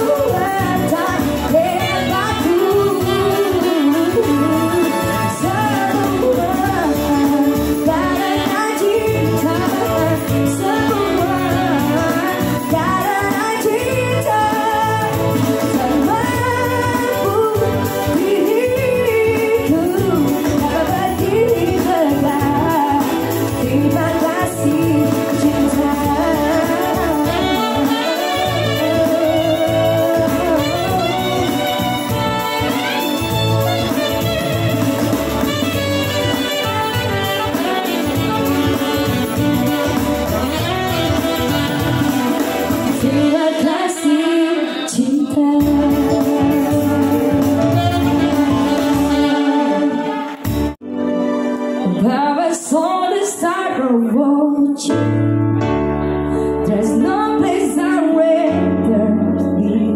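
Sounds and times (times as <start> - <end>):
woman singing into microphone: 0.0 - 50.4, 51.8 - 55.4, 56.2 - 59.9
saxophone: 0.0 - 53.2
electronic keyboard: 0.0 - 53.4, 54.9 - 59.9.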